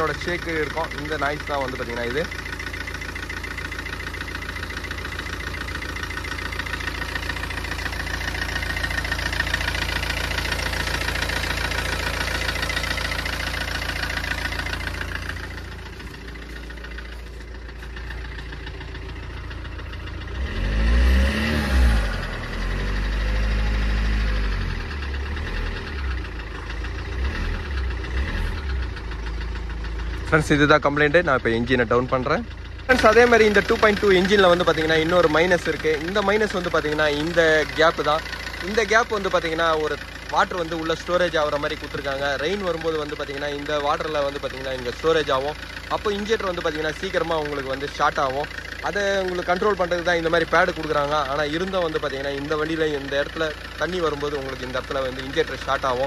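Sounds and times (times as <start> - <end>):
diesel engine knocking: 0.0 - 56.0.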